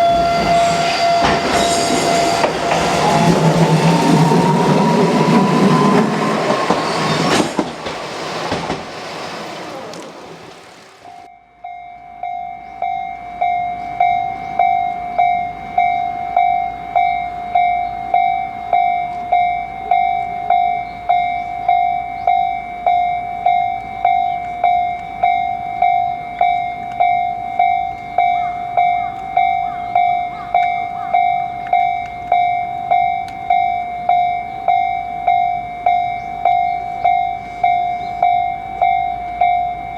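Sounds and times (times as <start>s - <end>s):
level crossing warning bell: 0.0s - 7.4s, 11.1s - 39.9s
train passing with whine: 0.0s - 11.3s, 12.8s - 39.9s.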